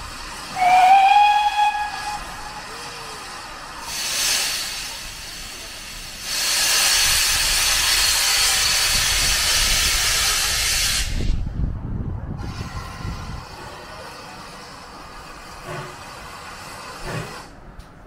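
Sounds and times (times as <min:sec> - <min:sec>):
locomotive steam hissing: 0:00.0 - 0:11.5, 0:12.4 - 0:17.6.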